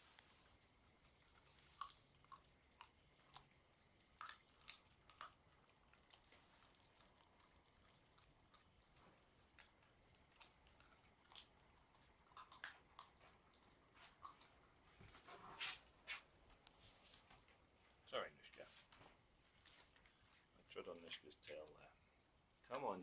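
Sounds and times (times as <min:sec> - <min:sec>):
puppies chewing bones: 0:00.0 - 0:18.0, 0:19.2 - 0:23.0.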